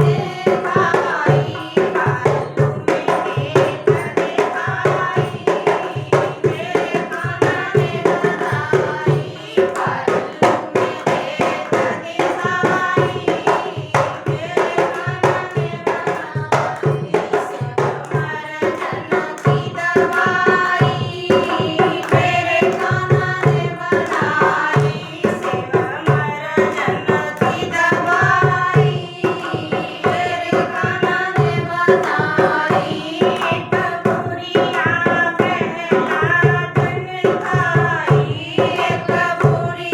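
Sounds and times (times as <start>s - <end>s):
hand drum beat: 0.0s - 39.9s
woman singing: 0.0s - 39.9s.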